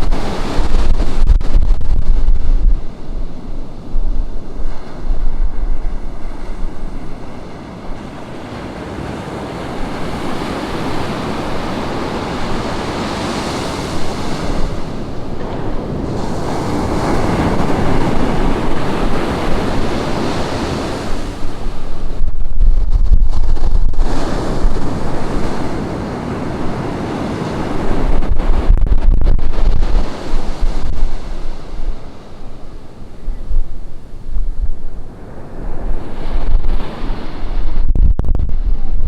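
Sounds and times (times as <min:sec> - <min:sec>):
ocean surf washing up beach: 0:00.0 - 0:39.0
wind buffeting microphone: 0:00.0 - 0:39.0.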